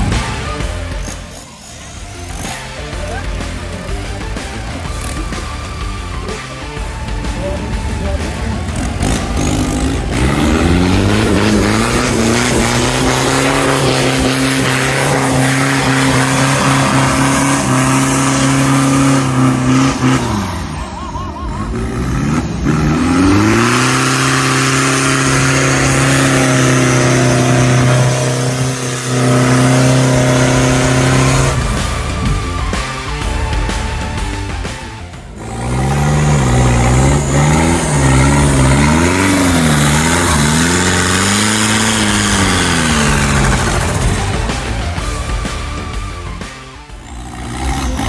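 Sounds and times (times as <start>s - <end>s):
engine revving hard: 0.0s - 48.0s.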